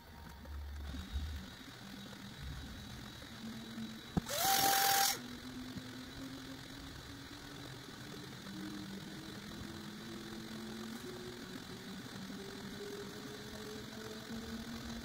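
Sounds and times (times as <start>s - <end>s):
stepper motors whirring: 0.0s - 15.0s.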